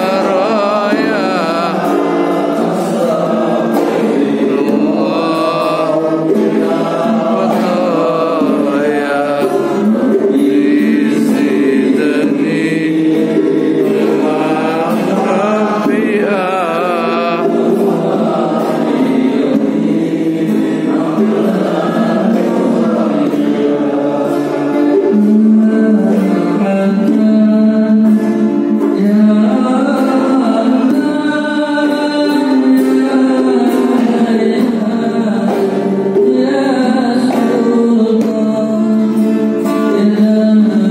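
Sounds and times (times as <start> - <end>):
acoustic guitar: 0.0 - 40.9
hand drum: 0.0 - 40.9
men singing together: 0.0 - 40.9.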